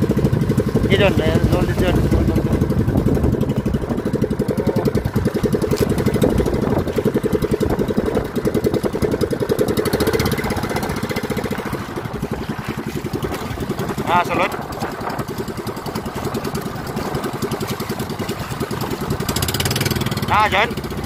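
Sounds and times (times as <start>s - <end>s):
small boat engine running: 0.0s - 21.0s.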